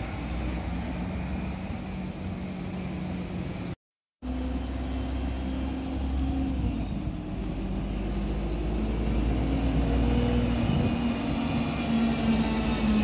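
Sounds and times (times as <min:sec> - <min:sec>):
bus driving past: 0:00.0 - 0:13.0.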